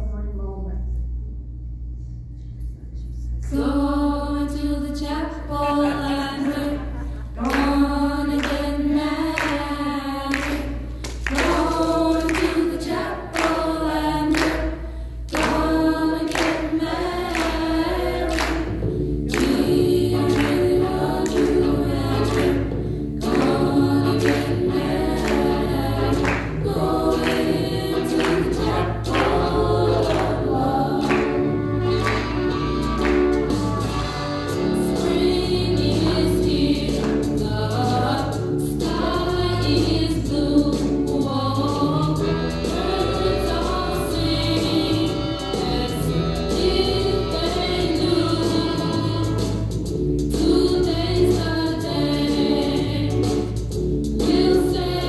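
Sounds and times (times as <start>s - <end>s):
recorded music with backing voices: 0.0s - 55.0s.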